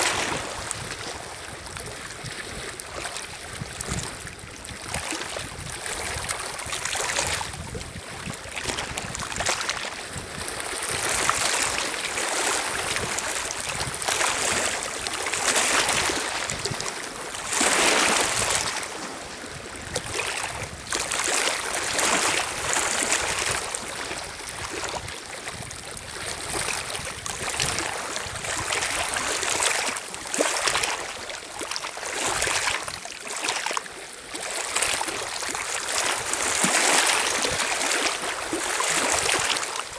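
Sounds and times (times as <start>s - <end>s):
lake waves lapping on pebble shore: 0.0s - 39.9s.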